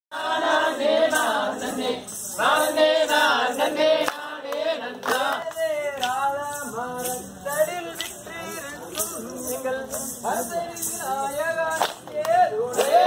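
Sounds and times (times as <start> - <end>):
voices singing a folk song: 0.1 - 13.0.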